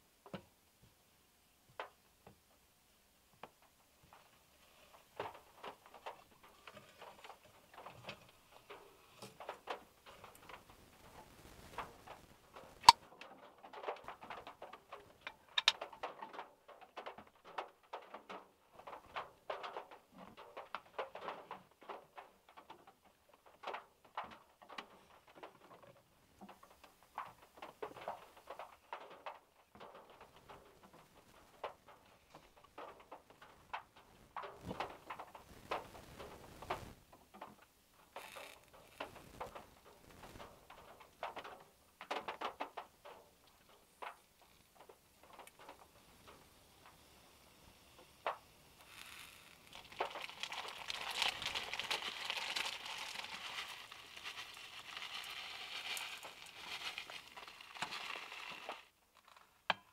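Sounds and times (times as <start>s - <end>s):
rain tapping on metal car roof: 5.0s - 59.8s.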